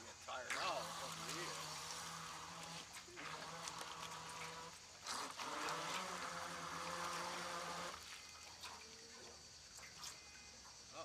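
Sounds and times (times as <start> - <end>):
small boat motor buzzing: 0.5 - 10.6.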